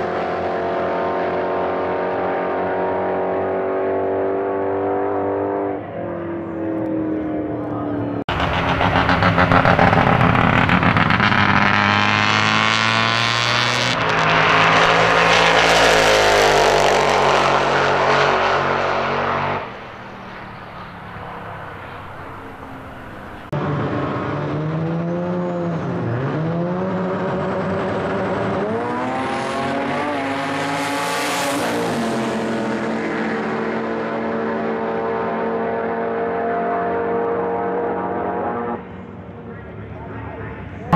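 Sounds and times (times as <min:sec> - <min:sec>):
drag racing car engine at full throttle: 0:00.0 - 0:40.9.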